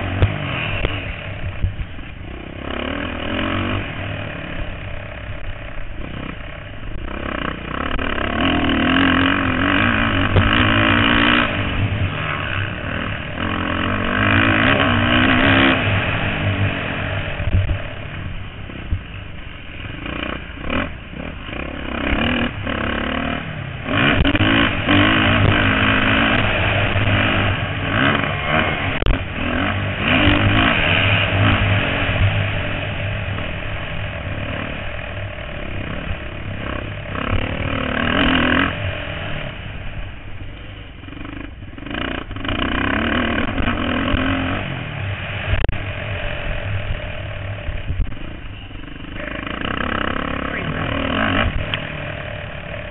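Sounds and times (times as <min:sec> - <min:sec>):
motocross bike engines revving: 0:00.0 - 0:52.9.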